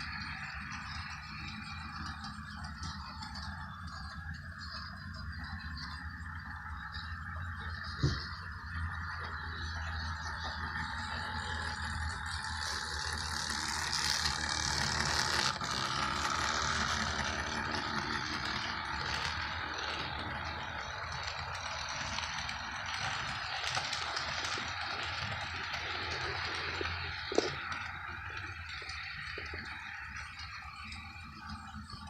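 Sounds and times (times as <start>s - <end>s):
model train motor hum: 0.0s - 32.0s
model train wheels rattling: 0.0s - 32.0s.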